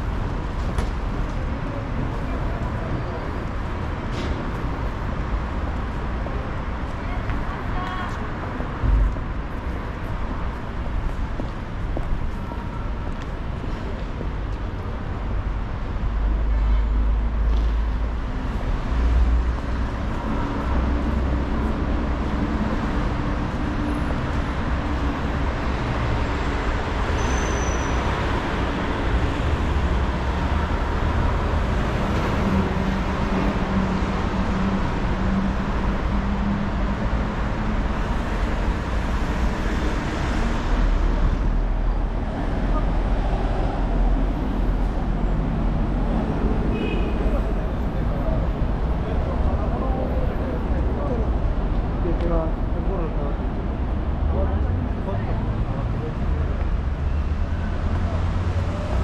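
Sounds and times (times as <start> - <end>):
road vehicles passing: 0.0 - 59.0.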